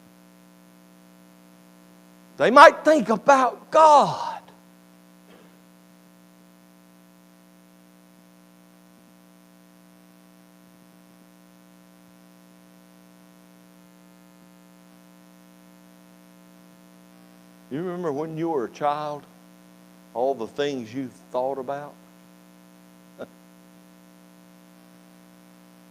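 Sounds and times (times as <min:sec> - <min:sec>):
faint mains hum: 0:00.0 - 0:25.9.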